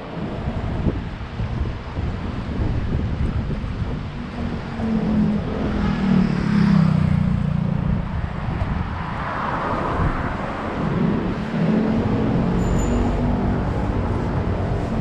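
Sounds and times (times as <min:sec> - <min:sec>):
road noise rush: 0:00.0 - 0:15.0
wind rumbling on microphone: 0:00.0 - 0:15.0.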